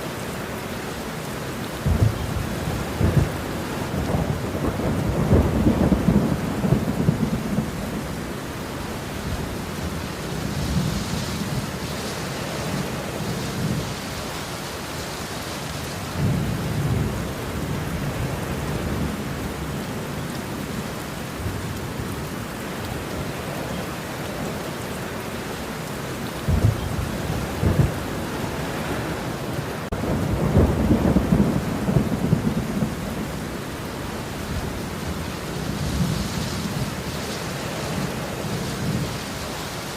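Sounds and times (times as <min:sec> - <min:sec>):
heavy rain: 0:00.0 - 0:39.9
thunder rumbling: 0:01.8 - 0:14.2, 0:16.0 - 0:22.3, 0:26.2 - 0:39.5.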